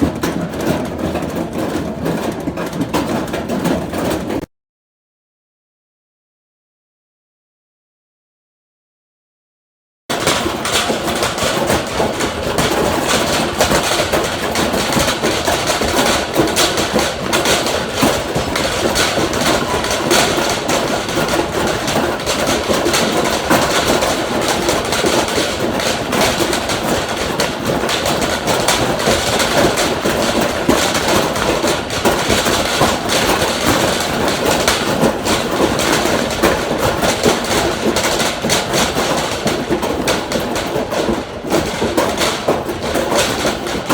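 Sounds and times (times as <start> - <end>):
shopping cart rattling: 0.0 - 4.4, 10.1 - 43.9.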